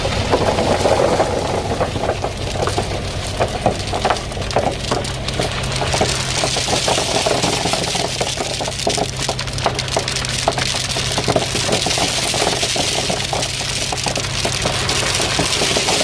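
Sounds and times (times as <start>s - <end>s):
gravel pouring and clattering: 0.0s - 16.0s
heavy equipment engine running: 0.0s - 16.0s.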